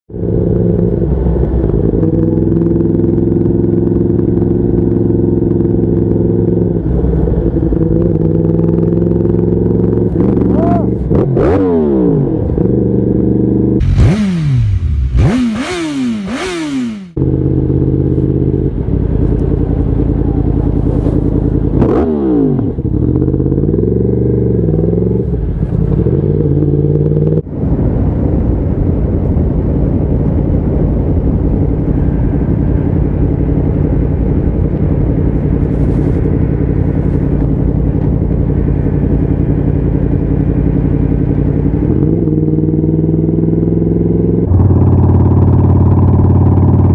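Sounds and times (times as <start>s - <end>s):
motorcycle engine revving: 0.1s - 46.9s.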